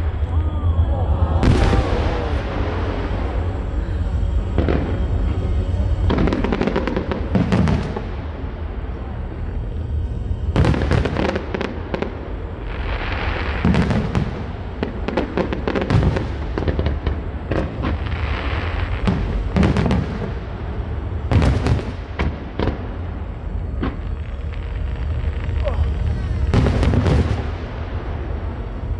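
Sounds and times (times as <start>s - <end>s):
crackling firework bursts: 0.0s - 28.9s
fireworks bangs and booms: 0.0s - 28.9s.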